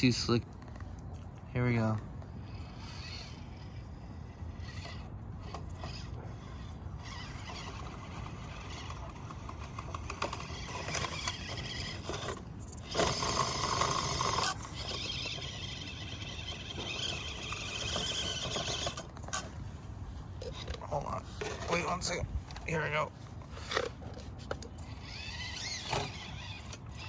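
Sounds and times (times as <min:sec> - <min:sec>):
small electric motor whining: 0:00.0 - 0:19.8, 0:20.4 - 0:27.0.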